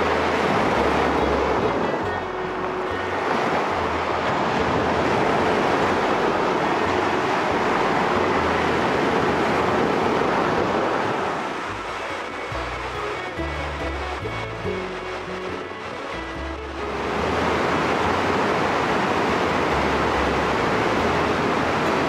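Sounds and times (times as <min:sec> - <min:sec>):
waves washing over pebbles: 0:00.0 - 0:14.0, 0:14.6 - 0:22.0.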